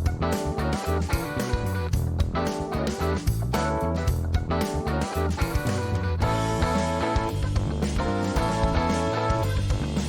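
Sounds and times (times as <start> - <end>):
guitar music with bass line: 0.0 - 10.0.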